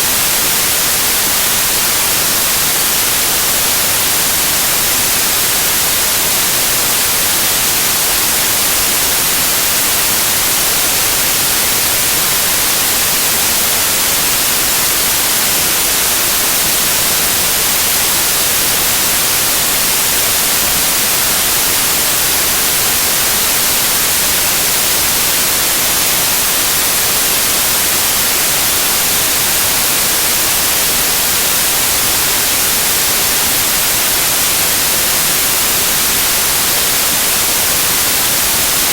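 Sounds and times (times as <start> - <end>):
electronic white noise hiss: 0.0 - 38.9.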